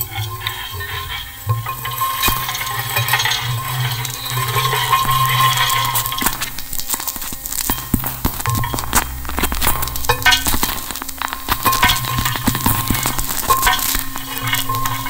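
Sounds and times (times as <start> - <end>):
low hum: 0.0 - 15.0
small clicks and crackles: 0.0 - 15.0.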